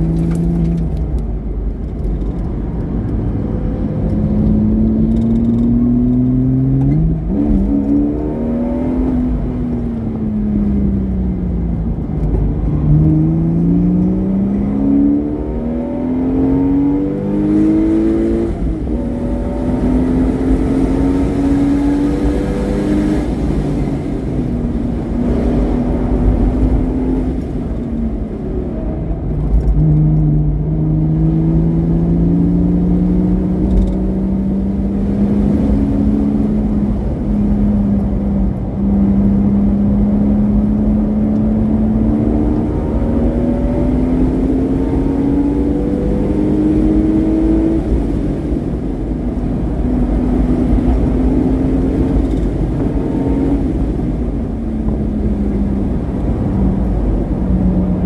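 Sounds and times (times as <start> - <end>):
sports car engine revving: 2.8 - 28.4, 29.2 - 58.0.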